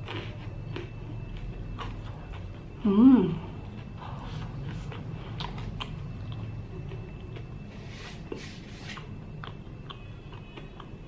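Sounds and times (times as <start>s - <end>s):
crunchy chewing: 0.0s - 2.8s, 3.5s - 11.0s
low hum: 0.0s - 11.0s.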